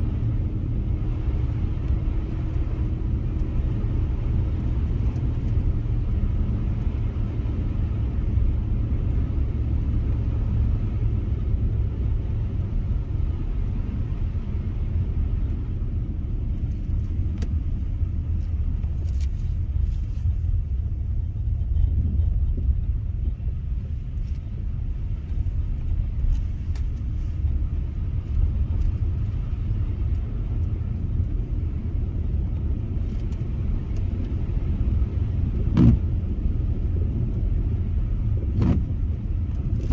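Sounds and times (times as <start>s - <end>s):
car engine: 0.0s - 39.9s
tyres on snowy road: 0.0s - 39.9s.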